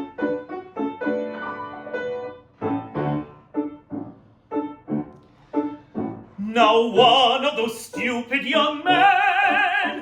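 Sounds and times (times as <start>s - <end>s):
solo piano: 0.0s - 10.0s.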